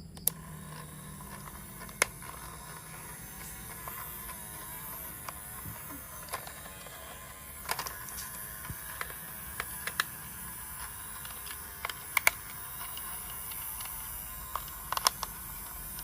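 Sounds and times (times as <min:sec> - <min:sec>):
plastic toy parts clicking: 0:00.1 - 0:16.0.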